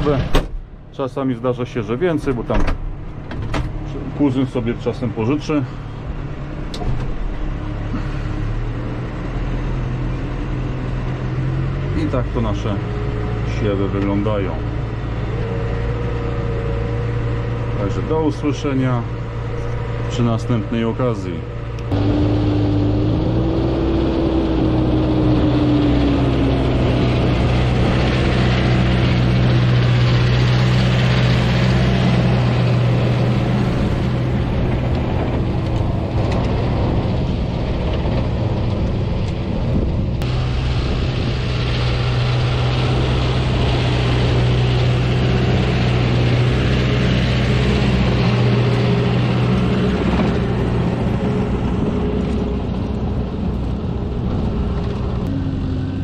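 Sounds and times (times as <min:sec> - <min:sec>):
tractor diesel engine: 0:00.0 - 0:56.0.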